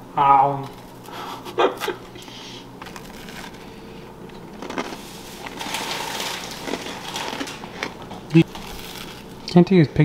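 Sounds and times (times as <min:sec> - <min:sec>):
person chewing a cookie: 0:01.3 - 0:09.5.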